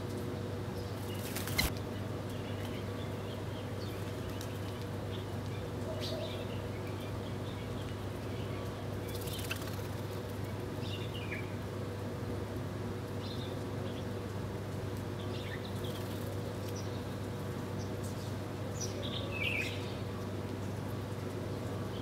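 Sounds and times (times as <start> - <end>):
sparrows chirping: 0.7 - 11.8, 13.2 - 14.3, 15.1 - 22.0.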